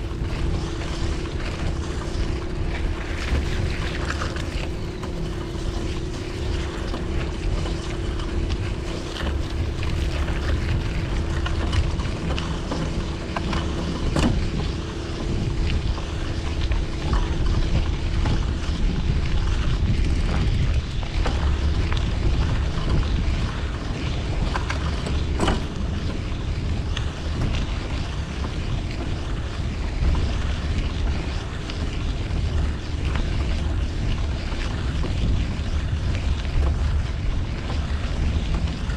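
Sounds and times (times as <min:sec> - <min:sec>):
steady hum: 0:00.0 - 0:38.9
wind buffeting microphone: 0:00.0 - 0:38.9.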